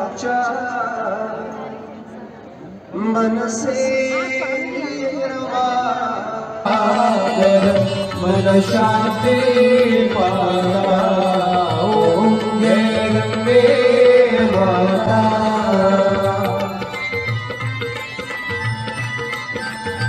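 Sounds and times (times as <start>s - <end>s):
devotional music with singing: 0.0s - 20.0s.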